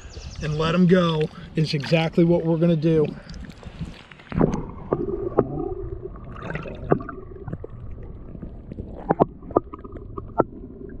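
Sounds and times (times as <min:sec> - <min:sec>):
water sloshing and gurgling: 0:00.0 - 0:11.0
water splashes: 0:00.4 - 0:11.0.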